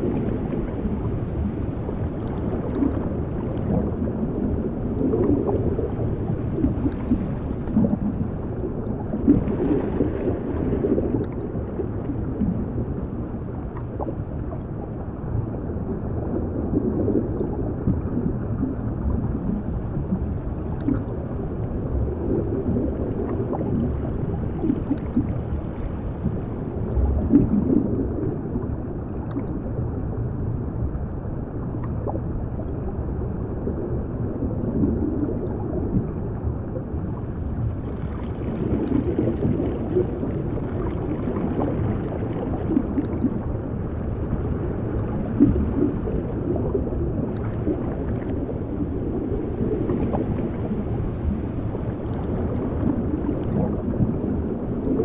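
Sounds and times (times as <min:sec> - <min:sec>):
bubbling and gurgling: 0:00.0 - 0:55.0
low underwater rumble: 0:00.0 - 0:55.0.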